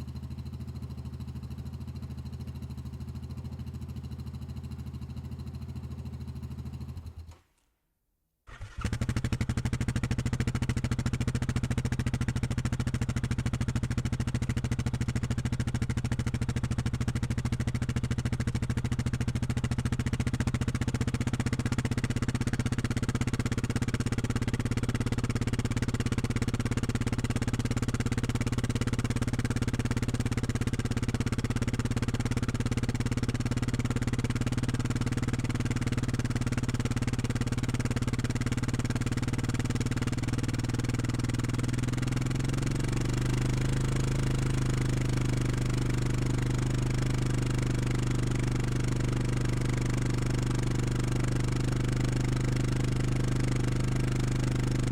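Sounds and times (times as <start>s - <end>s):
atv engine running: 8.5s - 54.9s.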